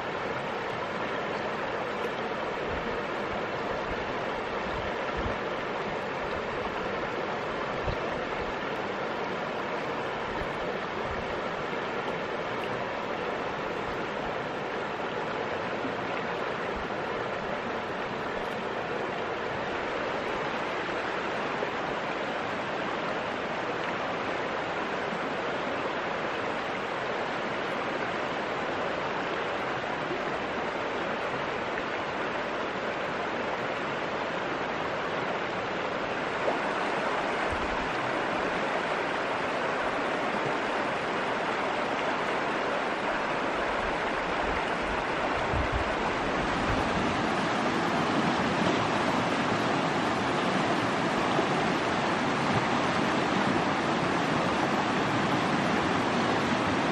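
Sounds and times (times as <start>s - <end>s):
stream water flowing: 0.0s - 56.9s.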